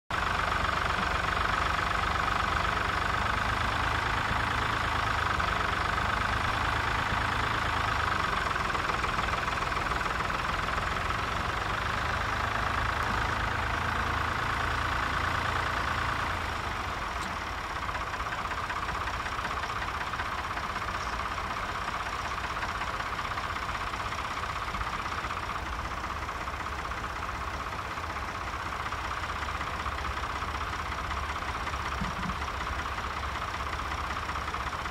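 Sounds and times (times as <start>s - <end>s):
tractor engines running: 0.1s - 34.9s.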